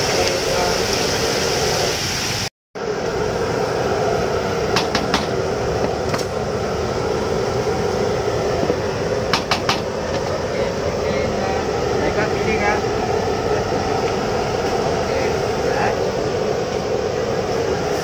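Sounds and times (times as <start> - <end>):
gas burner noise: 0.0 - 18.0
oil sizzling in woks: 0.0 - 18.0.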